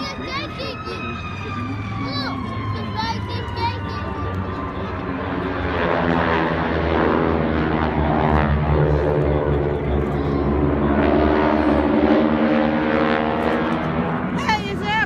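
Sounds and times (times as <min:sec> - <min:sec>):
propeller airplane engine drone: 0:00.0 - 0:15.0.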